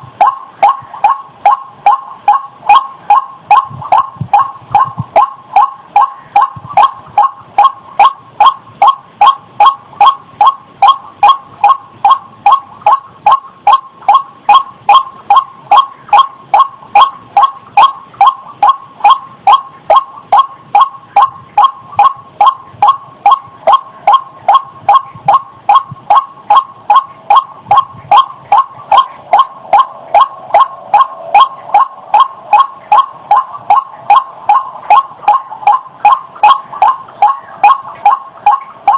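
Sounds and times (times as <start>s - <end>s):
waterhen calling: 0.0s - 38.9s.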